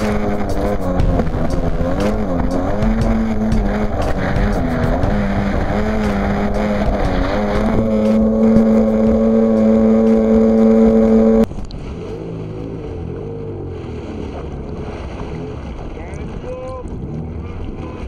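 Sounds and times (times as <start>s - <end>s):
jet ski engine: 0.0s - 18.0s
water and wind noise: 0.0s - 18.0s.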